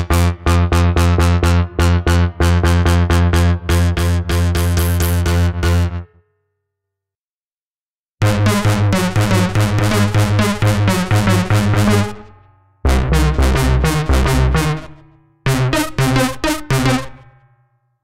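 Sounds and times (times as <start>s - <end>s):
synthesizer bass line: 0.0s - 6.0s, 8.2s - 17.4s.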